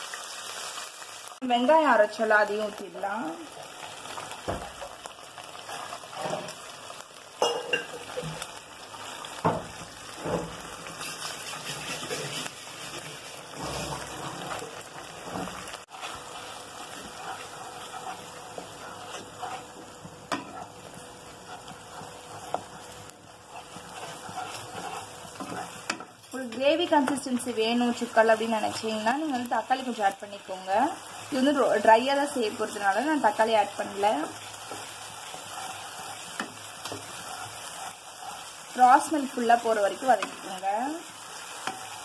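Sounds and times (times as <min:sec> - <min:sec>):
onion paste sizzling in a pan: 0:00.0 - 0:42.0
wooden spatula scraping a pan: 0:04.1 - 0:06.7, 0:07.8 - 0:42.0.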